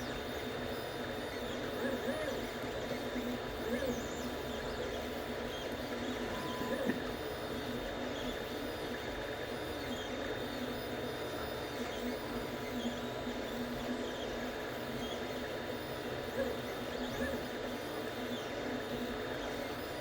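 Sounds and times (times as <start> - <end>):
print head motor whines: 0.0 - 20.0
three d printer humming: 0.0 - 20.0.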